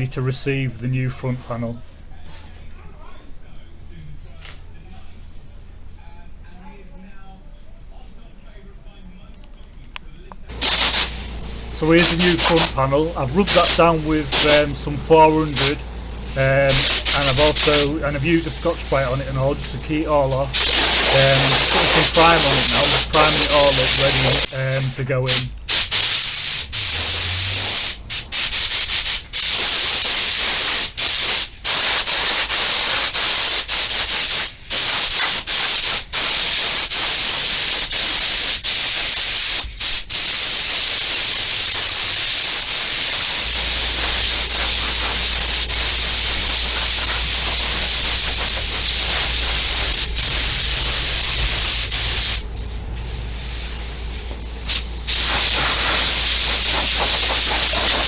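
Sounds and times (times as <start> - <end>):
hiss of spray paint: 10.5 - 58.0.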